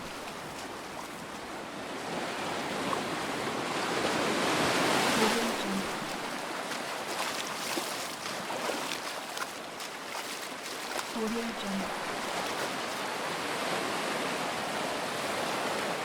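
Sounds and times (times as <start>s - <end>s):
footsteps splashing in shallow water: 0.0s - 16.0s
wave washing over pebbles: 0.0s - 16.0s.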